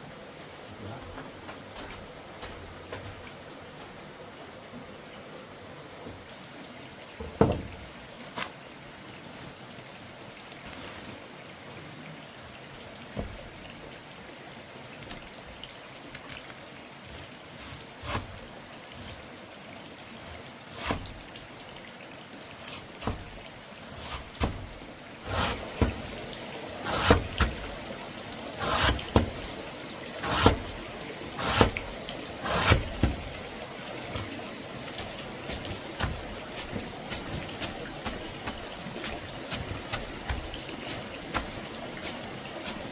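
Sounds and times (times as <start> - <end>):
water splashing from pours: 1.2 - 42.9.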